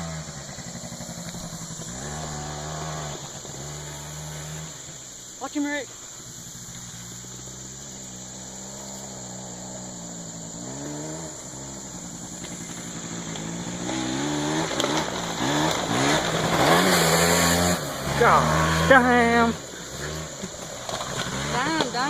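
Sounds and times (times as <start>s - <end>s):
small atv engine revving: 0.0s - 22.0s.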